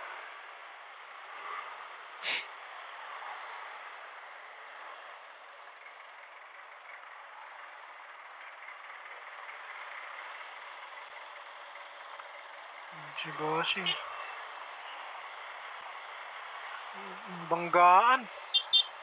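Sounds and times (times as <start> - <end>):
traffic and road noise: 0.0 - 19.0.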